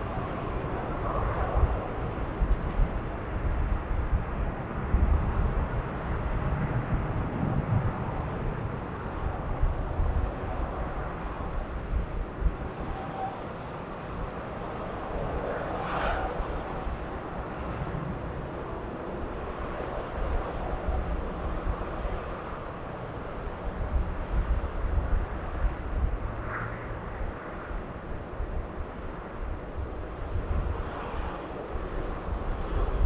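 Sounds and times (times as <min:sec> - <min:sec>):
jet airliner takeoff rumble: 0:00.0 - 0:33.0.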